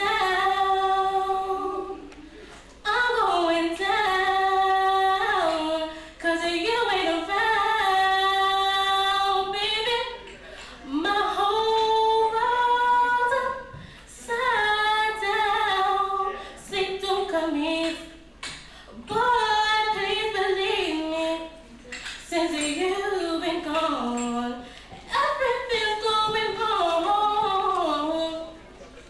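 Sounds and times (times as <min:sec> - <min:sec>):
woman singing unaccompanied: 0:00.0 - 0:02.2, 0:02.8 - 0:10.2, 0:10.9 - 0:21.6, 0:22.2 - 0:28.6.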